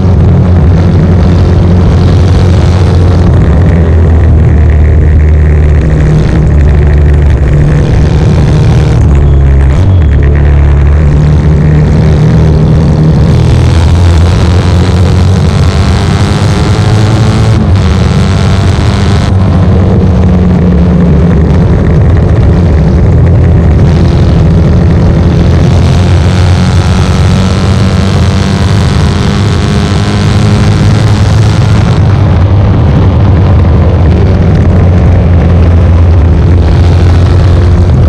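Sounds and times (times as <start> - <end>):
motorcycle engine accelerating: 0.0 - 38.0
wind rush: 0.0 - 38.0.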